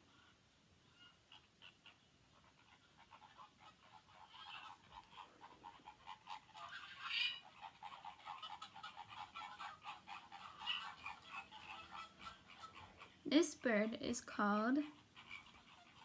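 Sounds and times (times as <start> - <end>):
flamingo flock calling: 0.0 - 13.2, 14.9 - 16.0.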